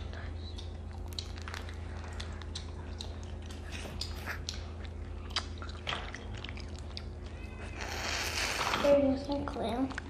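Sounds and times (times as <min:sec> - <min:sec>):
chewing and sucking: 0:00.0 - 0:09.0.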